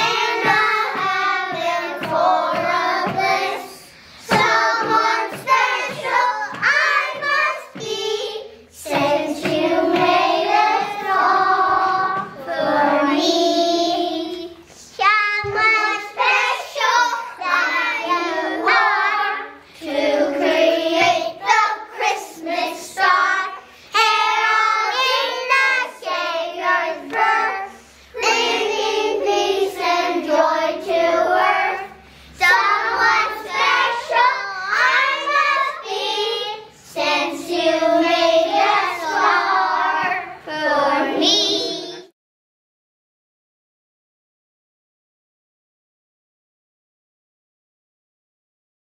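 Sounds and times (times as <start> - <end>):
children's choir singing: 0.0 - 42.1.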